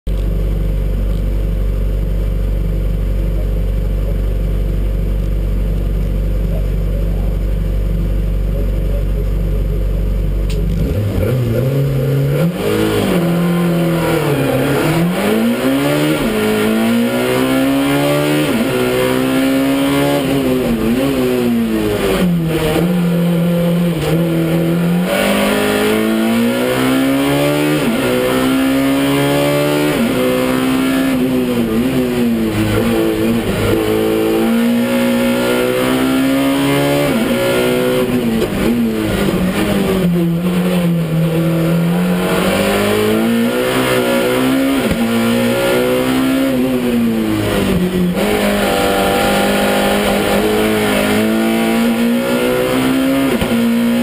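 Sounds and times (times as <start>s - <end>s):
race car engine revving: 5.8s - 54.0s.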